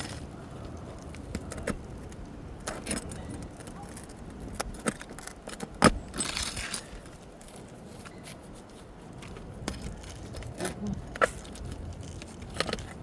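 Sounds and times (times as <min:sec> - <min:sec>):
shingle scraping and tearing: 0:00.0 - 0:13.0.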